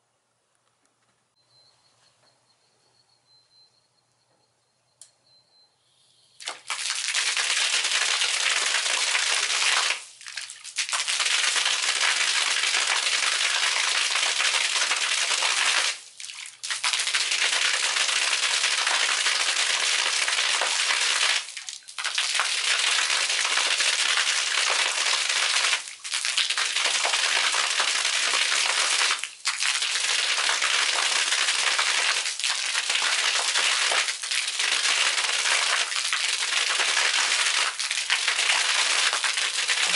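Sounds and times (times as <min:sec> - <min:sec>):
fountain water splashing: 0:06.4 - 0:39.9.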